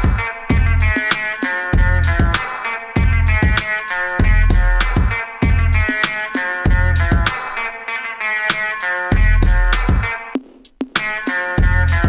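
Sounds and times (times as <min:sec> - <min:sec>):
drum beat with heavy bass: 0:00.0 - 0:07.8, 0:08.4 - 0:12.0.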